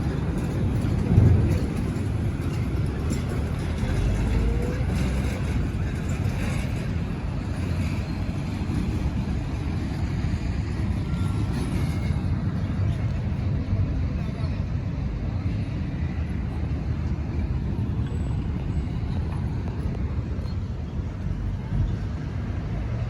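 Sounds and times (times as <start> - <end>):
road vehicle rumble: 0.0 - 23.0.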